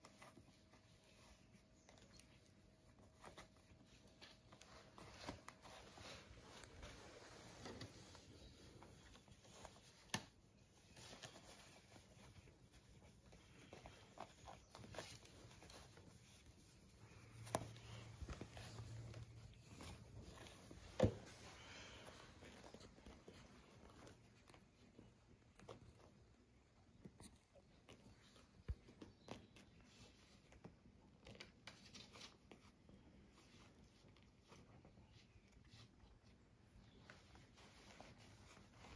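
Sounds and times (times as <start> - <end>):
hand stroking puppies: 0.0 - 38.9
puppies shuffling on blanket: 0.0 - 38.9.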